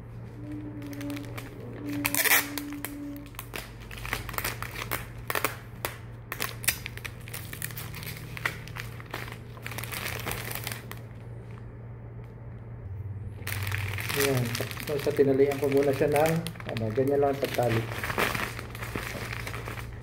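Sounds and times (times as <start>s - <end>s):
steady low hum: 0.0s - 17.0s
wrapping material crinkling: 0.1s - 11.6s, 13.4s - 20.0s.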